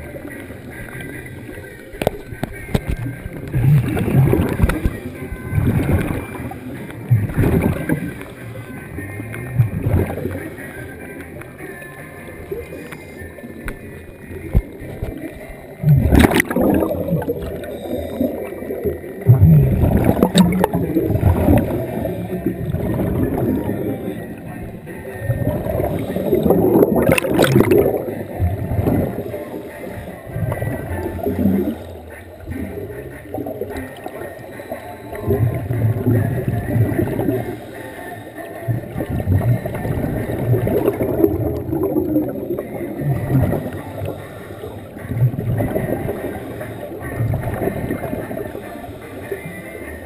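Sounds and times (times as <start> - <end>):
music playing underwater: 0.0 - 50.0
underwater regulator bubbles gurgling: 0.0 - 50.0.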